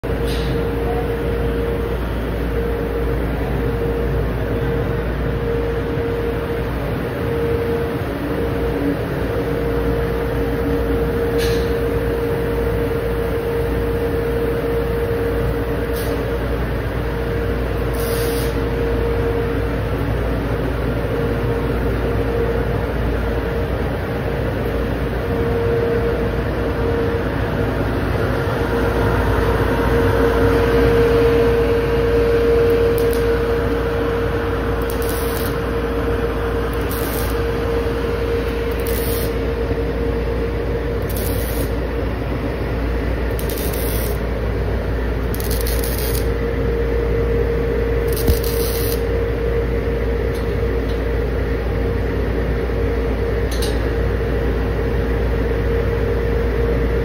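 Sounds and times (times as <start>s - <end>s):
extraction fans humming: 0.0s - 57.0s.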